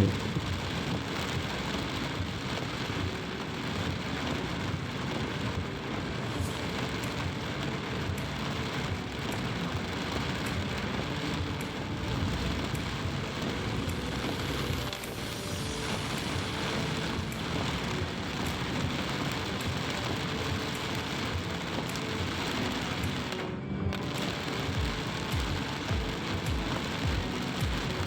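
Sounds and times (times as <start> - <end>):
road traffic: 0.0 - 27.9
heavy rain pouring: 0.0 - 28.0.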